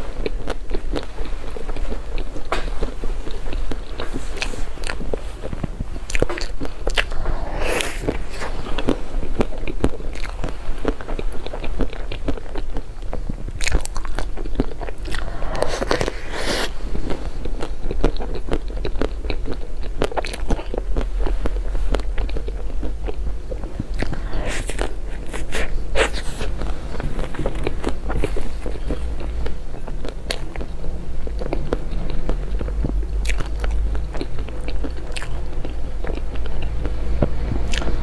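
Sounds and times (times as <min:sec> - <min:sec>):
steady low hum: 0:00.0 - 0:38.0
person chewing food: 0:00.2 - 0:37.0, 0:37.7 - 0:38.0.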